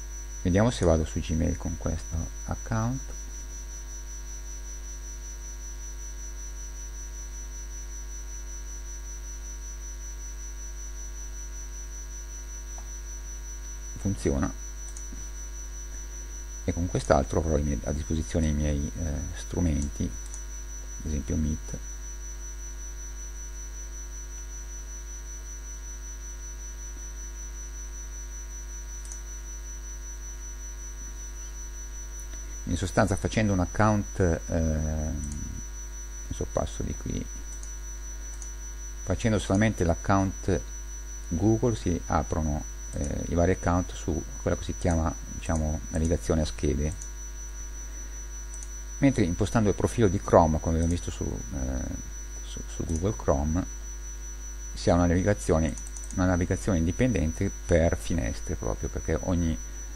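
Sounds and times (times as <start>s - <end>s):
electrical mains hum: 0.0s - 59.9s
high-pitched whine: 0.0s - 59.9s.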